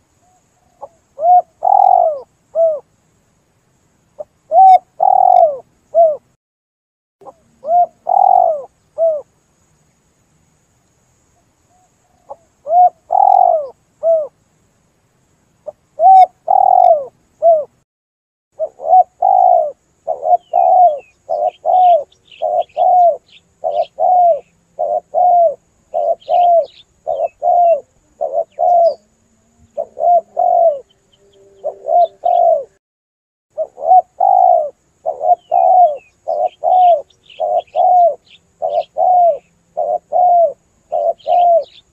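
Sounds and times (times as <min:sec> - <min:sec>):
small bird chirping: 0:00.0 - 0:02.9, 0:04.0 - 0:06.3, 0:07.2 - 0:09.8, 0:10.8 - 0:14.4, 0:15.6 - 0:17.8, 0:18.6 - 0:32.8, 0:33.6 - 0:41.9
dove cooing: 0:00.3 - 0:02.8, 0:04.5 - 0:06.3, 0:07.2 - 0:09.3, 0:11.7 - 0:14.3, 0:15.7 - 0:17.8, 0:18.6 - 0:32.8, 0:33.6 - 0:41.9.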